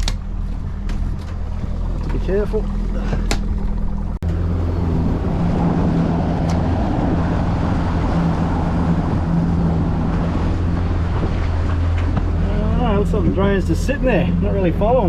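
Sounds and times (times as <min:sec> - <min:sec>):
boat motor running: 0:00.0 - 0:15.0
rush of wind and water: 0:00.0 - 0:15.0.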